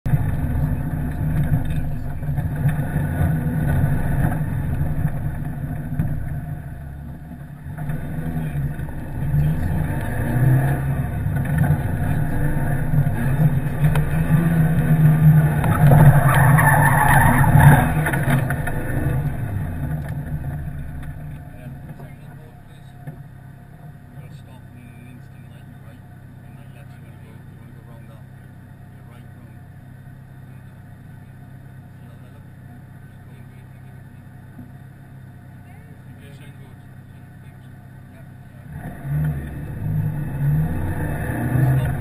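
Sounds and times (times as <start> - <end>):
rally car engine under load: 0.0 - 42.0.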